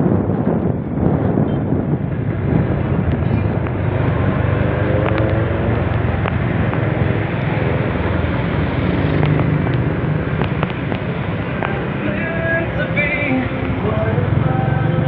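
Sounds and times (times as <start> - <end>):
motorcycle engine cruising: 0.0 - 15.0
road noise: 0.0 - 15.0
wind on microphone: 0.0 - 15.0.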